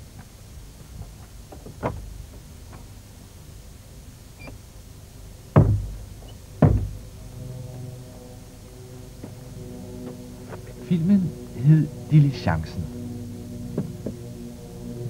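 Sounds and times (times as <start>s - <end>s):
low rumbling background: 0.0s - 15.0s.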